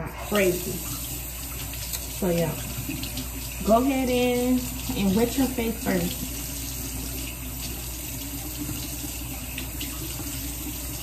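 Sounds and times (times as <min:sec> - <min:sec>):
tap running: 0:00.3 - 0:11.0.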